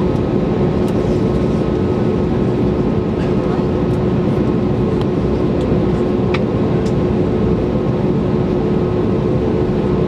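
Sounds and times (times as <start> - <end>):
jet engines heard from cabin: 0.0 - 10.0.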